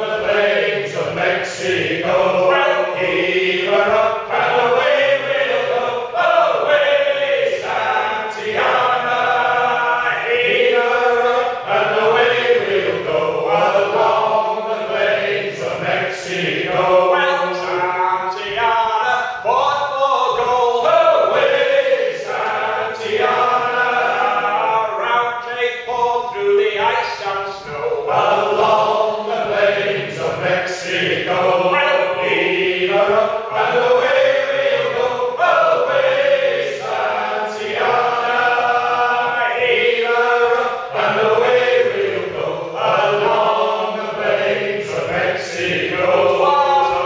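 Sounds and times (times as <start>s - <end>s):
men singing a sea shanty: 0.0s - 47.0s.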